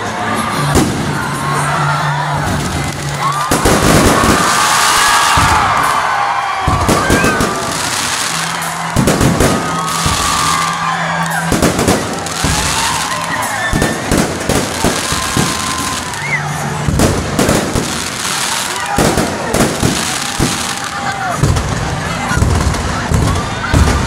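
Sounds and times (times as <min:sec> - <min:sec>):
fireworks crackling hiss: 0:02.6 - 0:23.3.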